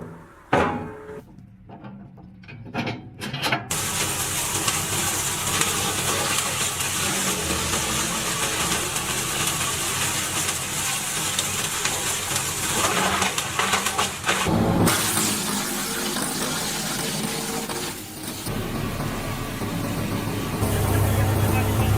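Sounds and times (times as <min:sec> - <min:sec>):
wood chipper running: 0:03.7 - 0:21.9.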